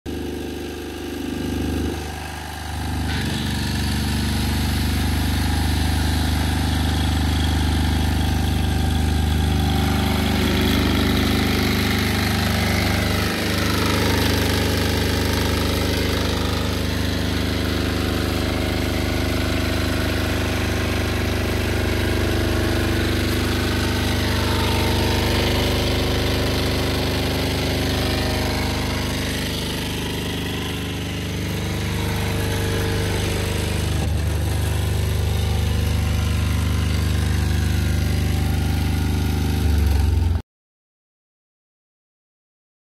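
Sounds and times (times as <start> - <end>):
diesel generator engine running: 0.1 - 40.4.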